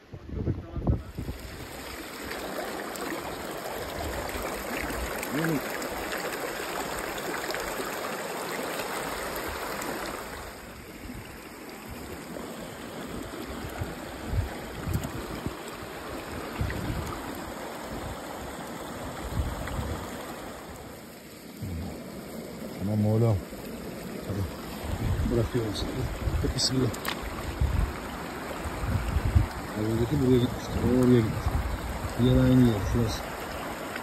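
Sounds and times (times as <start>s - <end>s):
stream rushing over rocks: 1.1s - 34.0s.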